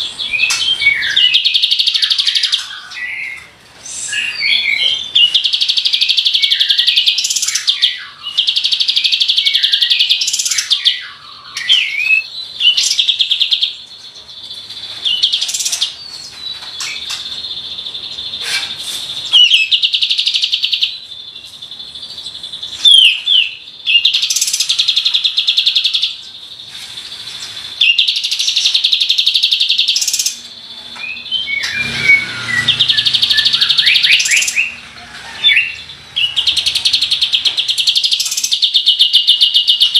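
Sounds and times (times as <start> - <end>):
bird chirps and whistles: 0.0 - 13.8, 14.8 - 30.4, 31.0 - 39.9.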